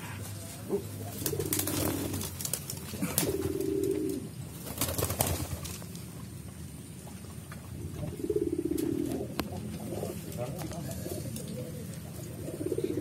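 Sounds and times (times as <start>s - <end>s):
pigeons cooing: 0.0s - 5.7s, 7.3s - 13.0s.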